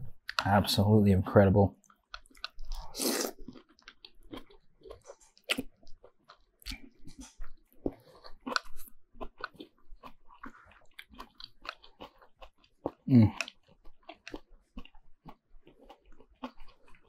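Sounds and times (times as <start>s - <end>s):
person chewing and slurping noodles: 1.8s - 17.0s.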